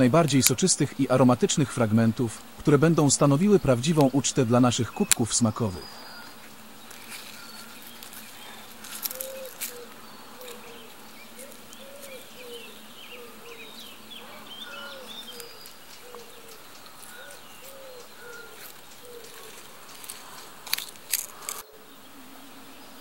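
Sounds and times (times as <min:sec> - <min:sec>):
pigeons cooing: 0:00.0 - 0:23.0
small birds chirping: 0:00.0 - 0:23.0.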